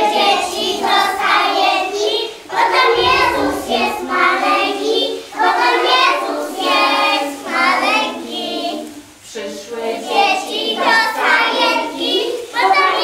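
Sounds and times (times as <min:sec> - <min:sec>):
young children singing: 0:00.0 - 0:13.0.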